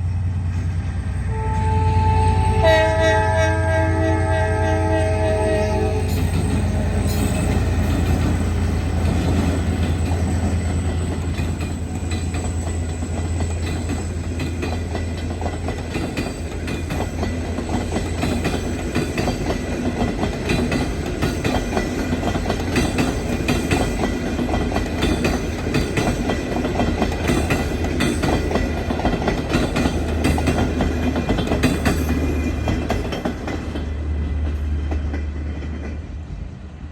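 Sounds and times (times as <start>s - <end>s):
train low rumble: 0.0s - 36.9s
train wheels clattering on rails: 5.9s - 36.5s.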